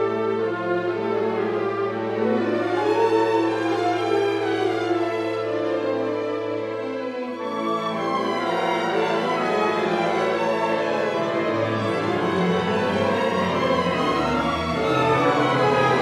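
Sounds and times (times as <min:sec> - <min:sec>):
orchestral strings sustained chords: 0:00.0 - 0:16.0.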